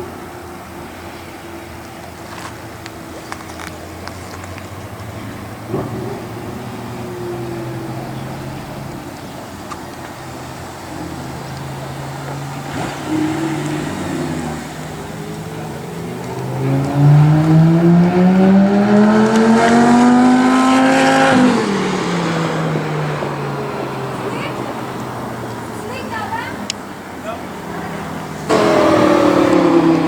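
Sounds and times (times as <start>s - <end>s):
car engine revving: 0.8s - 30.0s.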